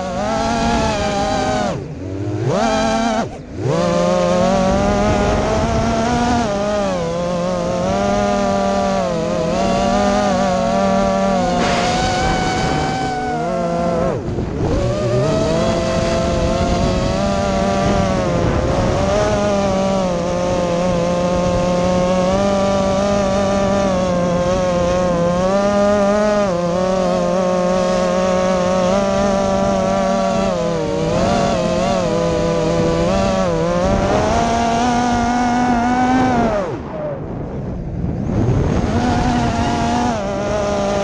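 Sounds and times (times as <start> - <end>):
quadcopter motors whining: 0.0 - 41.0.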